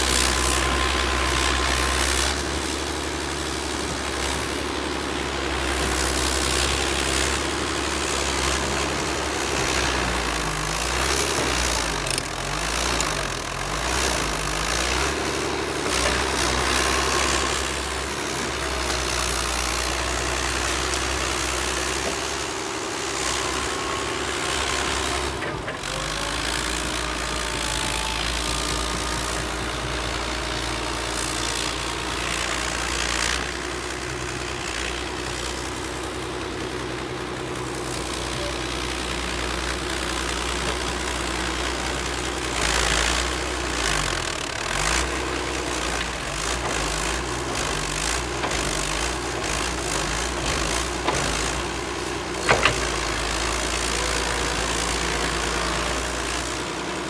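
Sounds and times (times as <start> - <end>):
bulldozer diesel engine running: 0.0 - 57.0
bulldozer pushing soil and brush: 0.0 - 57.0.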